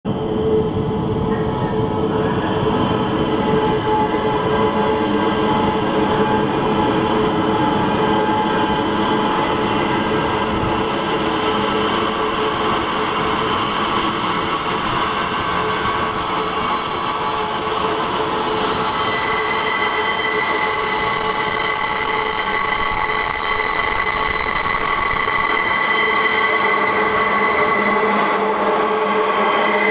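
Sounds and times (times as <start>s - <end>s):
train wheels squealing: 0.1s - 29.9s.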